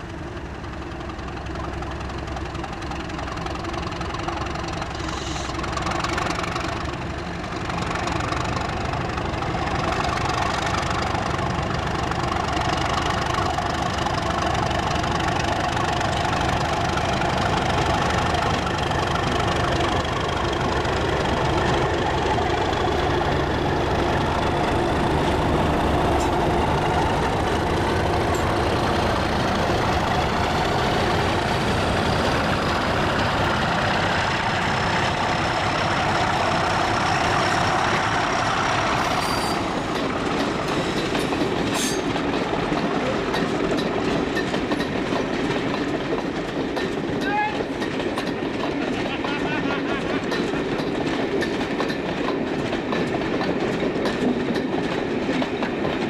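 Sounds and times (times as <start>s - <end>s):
diesel locomotive engines running: 0.0s - 56.0s.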